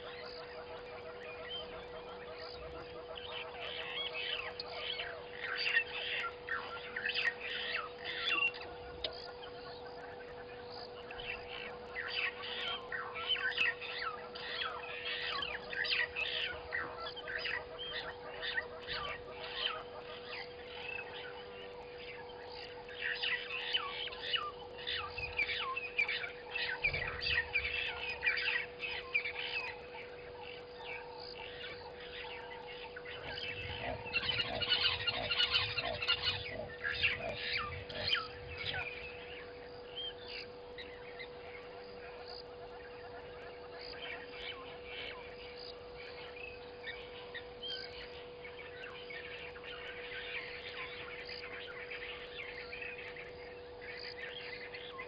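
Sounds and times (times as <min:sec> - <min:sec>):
birds chirping: 0:00.0 - 0:55.0
faint steady hum: 0:00.0 - 0:55.0.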